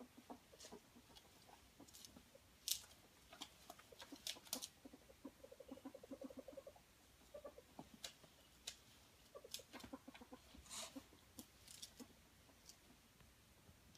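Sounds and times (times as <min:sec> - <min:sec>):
ferrets clucking: 0:00.0 - 0:13.0.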